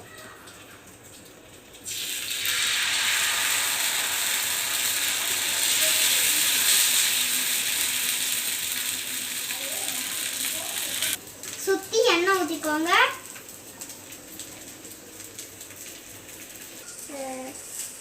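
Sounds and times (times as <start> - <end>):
batter sizzling on hot griddle: 1.0 - 18.0.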